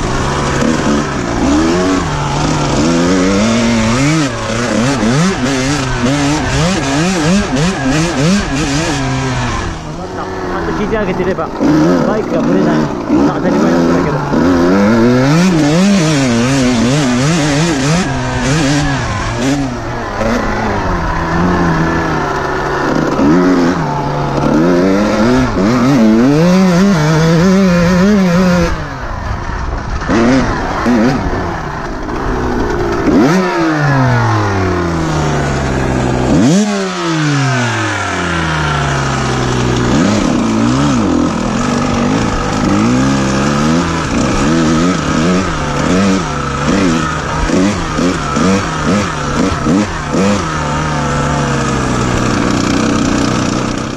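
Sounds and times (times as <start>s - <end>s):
motocross engine revving: 0.0s - 53.9s.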